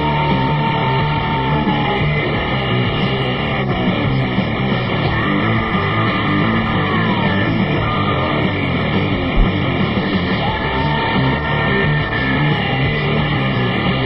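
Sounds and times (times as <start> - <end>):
loud rock music with guitar: 0.0 - 14.0.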